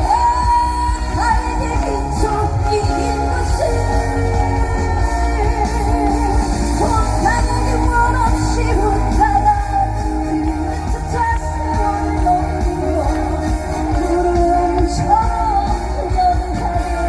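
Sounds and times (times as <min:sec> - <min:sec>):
backing track with strong bass: 0:00.0 - 0:17.0
woman singing: 0:00.0 - 0:17.0.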